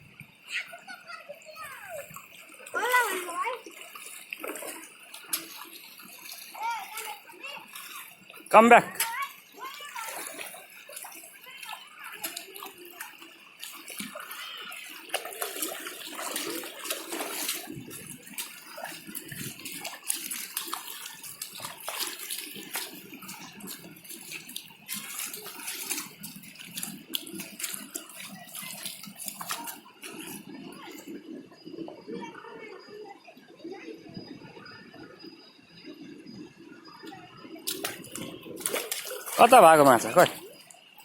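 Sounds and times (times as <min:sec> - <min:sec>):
stream water running and splashing: 0:00.0 - 0:41.0.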